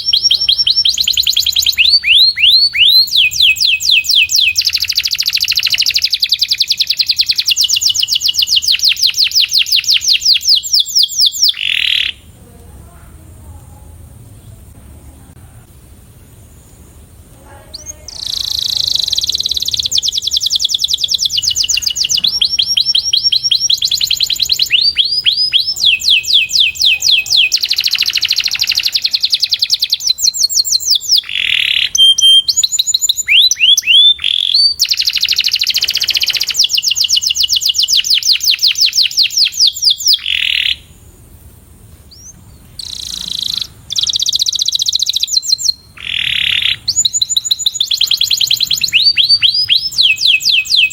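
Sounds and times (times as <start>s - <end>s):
canary singing trills: 0.0s - 12.3s, 16.5s - 41.1s, 42.1s - 50.9s.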